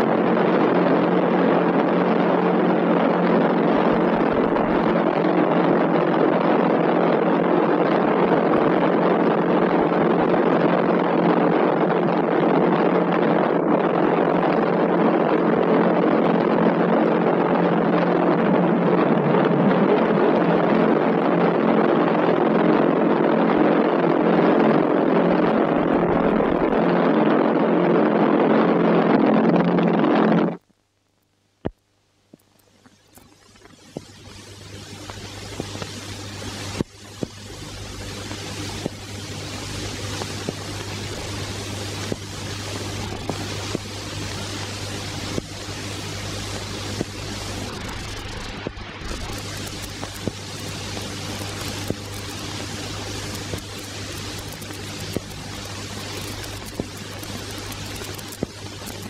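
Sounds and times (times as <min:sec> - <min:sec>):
mechanical drone: 0:00.0 - 0:30.4, 0:32.5 - 0:59.0.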